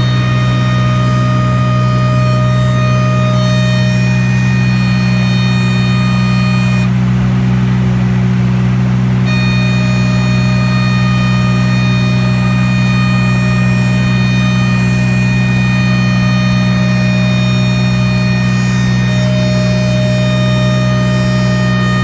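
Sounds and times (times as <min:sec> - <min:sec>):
thin high whine: 0:00.0 - 0:08.0, 0:09.2 - 0:22.0
light aircraft engine droning: 0:00.0 - 0:22.0.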